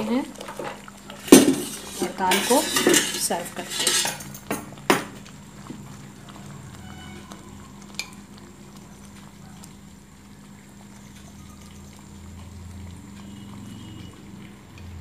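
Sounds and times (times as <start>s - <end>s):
ladle scooping wet food: 0.0s - 15.0s.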